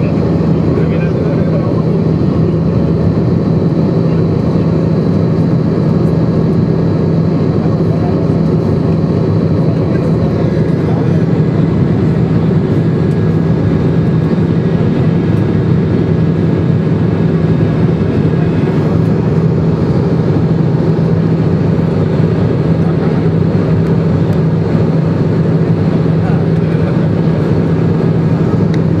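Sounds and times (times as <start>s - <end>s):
airliner cabin drone: 0.0s - 29.0s.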